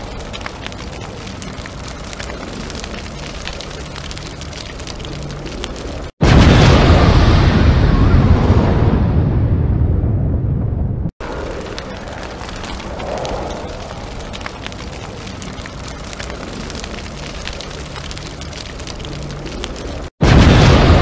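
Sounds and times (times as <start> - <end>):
scattered crackles: 0.0 - 7.5, 11.2 - 21.0
low rumble: 1.6 - 21.0.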